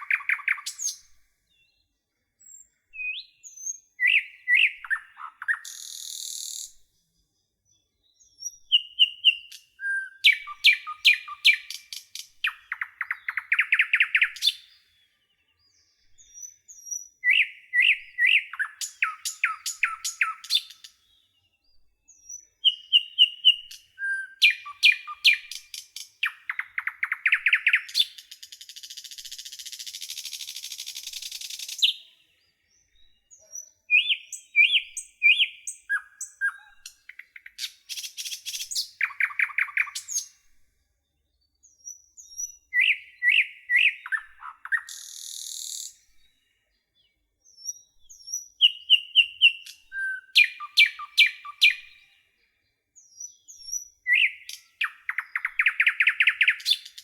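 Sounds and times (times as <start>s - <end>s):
songbird singing trill: 0.0s - 57.0s.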